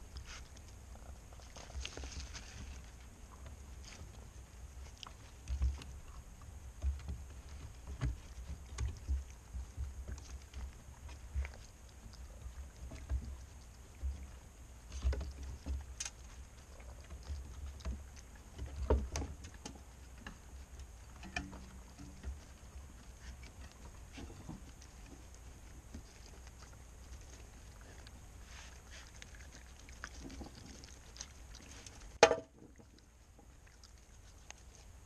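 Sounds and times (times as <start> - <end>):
animals rummaging in birdseed: 0.0 - 35.0.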